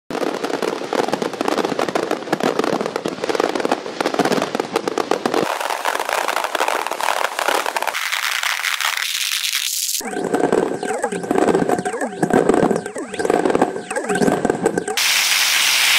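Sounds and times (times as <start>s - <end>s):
fireworks popping and crackling: 0.1s - 15.9s.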